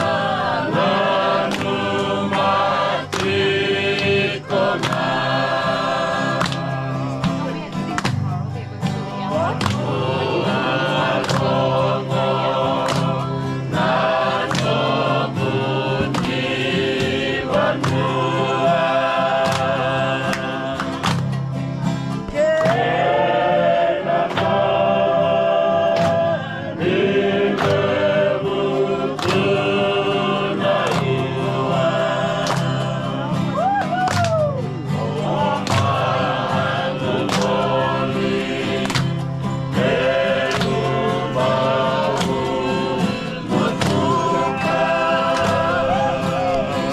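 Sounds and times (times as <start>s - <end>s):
choir singing gospel song: 0.0s - 7.7s, 9.1s - 33.7s, 34.8s - 46.9s.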